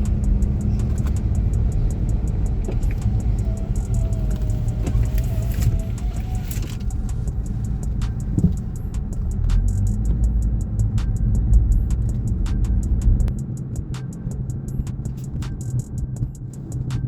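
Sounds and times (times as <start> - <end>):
car engine rumble inside cabin: 0.0 - 17.0.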